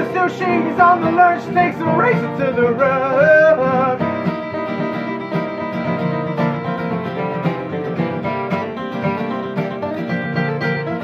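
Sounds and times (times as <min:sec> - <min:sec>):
plucked string instruments: 0:00.0 - 0:11.0.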